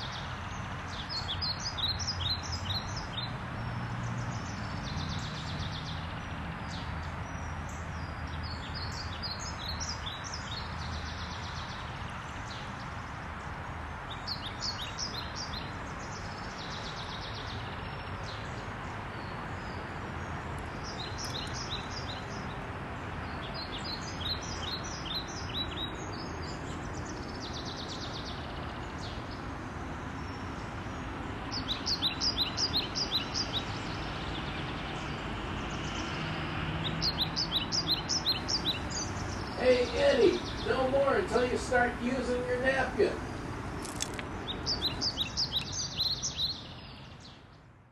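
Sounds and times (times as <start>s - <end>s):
outdoor background rumble: 0.0s - 47.9s
songbirds chirping: 0.0s - 47.9s.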